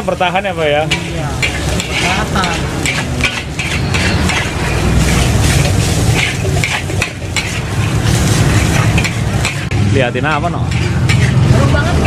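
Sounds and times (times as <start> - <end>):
metal spatula scraping a wok: 0.0 - 12.0
rice sizzling in a wok: 0.0 - 12.0.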